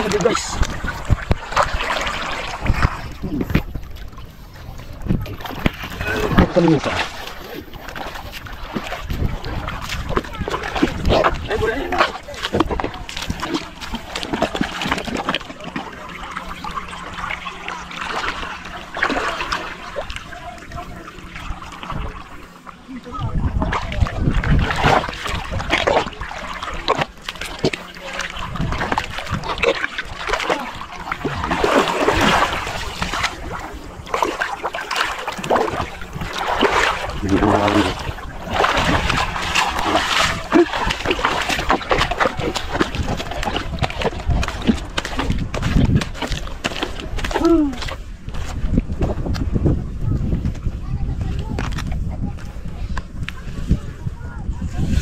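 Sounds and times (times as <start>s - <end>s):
muddy water sloshing and splashing: 0.0s - 55.0s.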